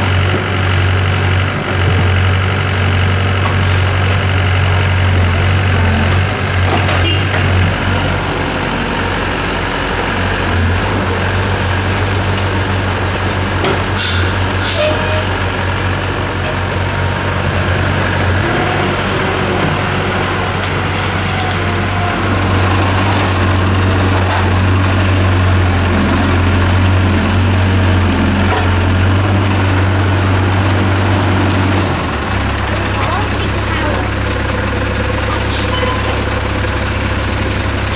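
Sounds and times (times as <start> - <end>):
diesel engines running: 0.0 - 37.9.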